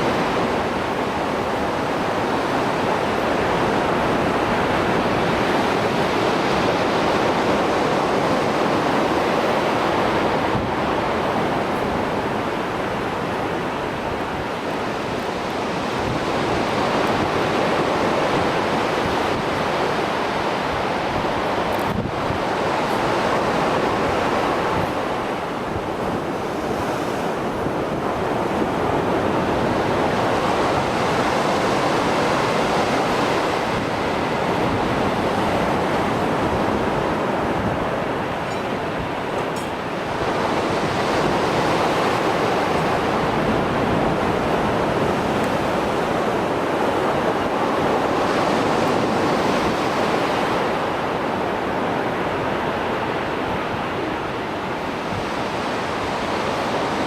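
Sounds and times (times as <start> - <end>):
surf breaking on shore: 0.0 - 57.0.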